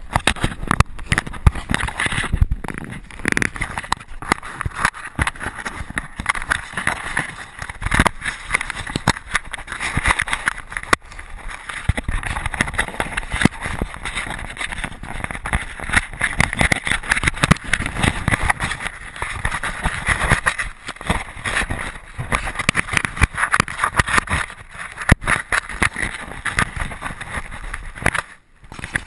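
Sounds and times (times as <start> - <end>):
camera rubbing and scraping: 0.0 - 29.0
rustling and thumps: 0.0 - 29.0.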